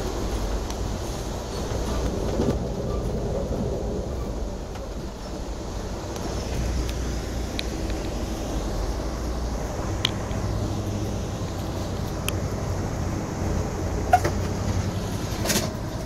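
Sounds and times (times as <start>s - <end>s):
train rumbling from inside: 0.0s - 16.0s.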